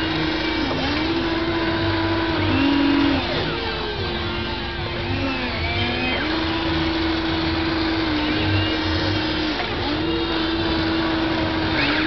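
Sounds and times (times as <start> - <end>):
toy excavator electric motors whining: 0.0 - 12.0.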